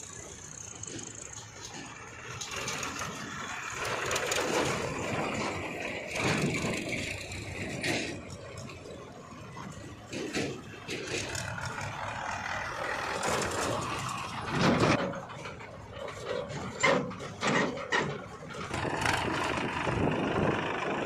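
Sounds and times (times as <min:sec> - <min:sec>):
tractors driving past: 0:00.0 - 0:21.0.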